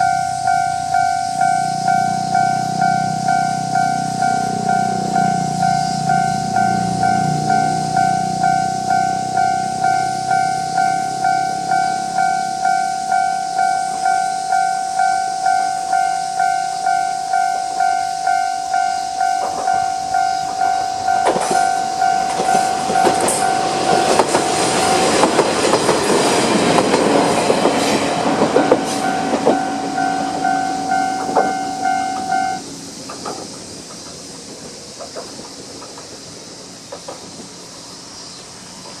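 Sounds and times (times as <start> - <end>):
level crossing warning bell: 0.0 - 32.9
train rumble: 0.0 - 39.0
wheels clicking over rail joints: 0.0 - 39.0.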